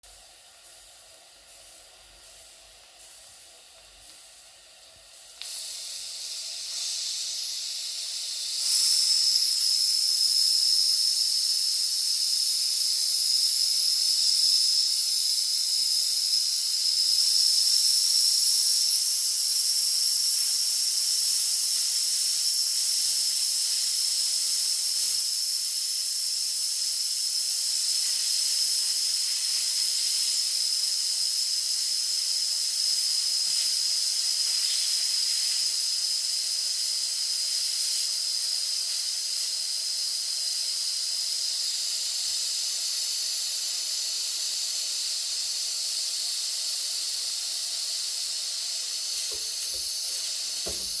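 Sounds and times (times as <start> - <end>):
toy steam engine hissing: 0.0 - 51.0.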